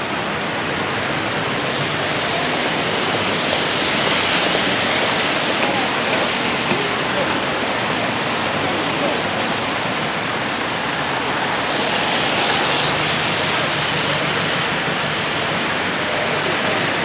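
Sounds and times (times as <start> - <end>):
loud steady rushing noise: 0.0 - 17.0.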